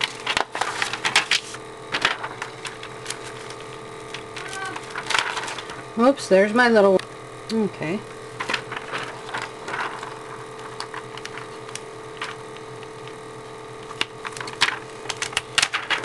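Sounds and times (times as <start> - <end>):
paper and tape crinkling: 0.0 - 5.9, 8.4 - 13.2, 13.8 - 16.0
faint steady hum: 0.0 - 16.0.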